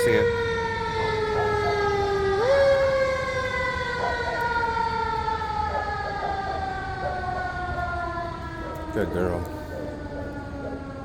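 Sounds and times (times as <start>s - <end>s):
engine and traffic rumble: 0.0s - 11.0s
fire truck siren wailing: 0.0s - 11.0s.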